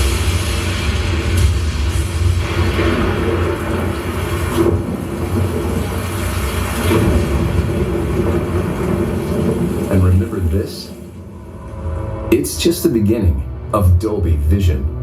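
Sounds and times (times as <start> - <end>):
rushing storm noise: 0.0 - 13.1
storm deep rumble: 0.0 - 14.5.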